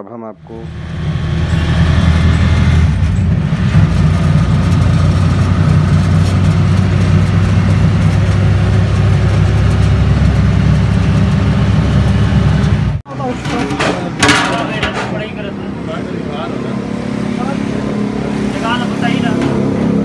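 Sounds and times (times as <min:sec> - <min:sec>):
road noise: 0:00.0 - 0:20.0
auto-rickshaw engine running: 0:00.5 - 0:13.3, 0:14.7 - 0:20.0.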